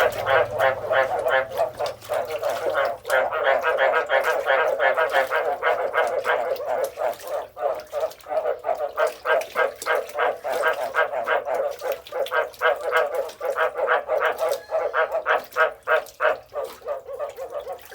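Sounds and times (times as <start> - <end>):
frogs croaking: 0.0 - 17.9.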